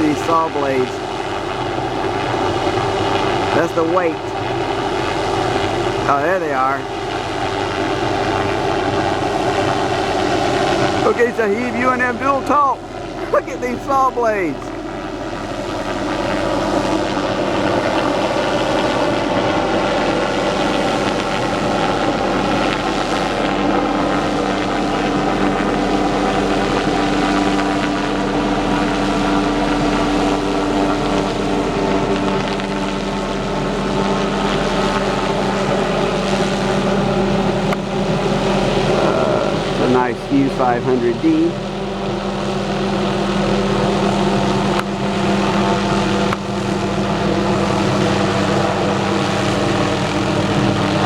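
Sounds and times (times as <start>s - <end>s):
helicopter engine and rotors: 0.0s - 51.0s.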